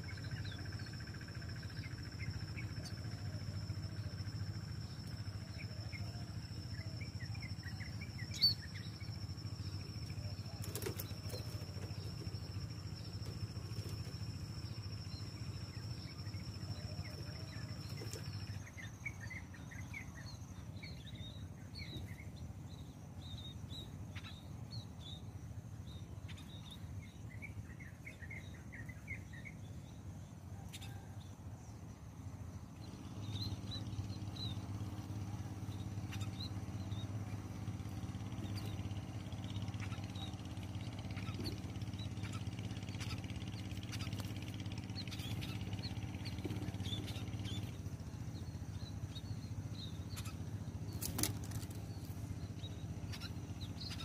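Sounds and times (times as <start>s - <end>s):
birds chirping: 0.0s - 54.0s
steady low hum: 0.0s - 54.0s.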